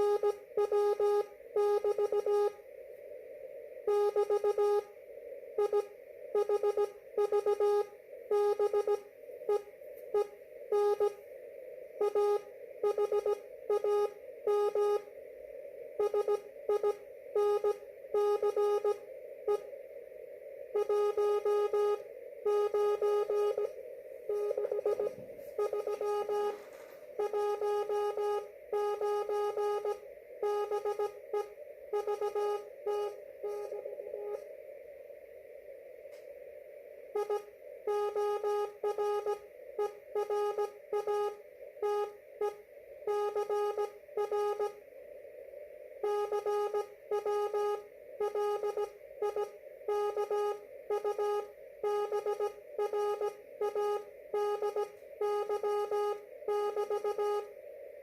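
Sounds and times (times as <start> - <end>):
morse code tone: 0.0 - 2.6, 3.9 - 4.9, 5.6 - 11.2, 12.0 - 15.1, 16.0 - 19.7, 20.8 - 34.5, 37.1 - 44.8, 46.0 - 57.5
receiver noise hiss: 0.0 - 58.0.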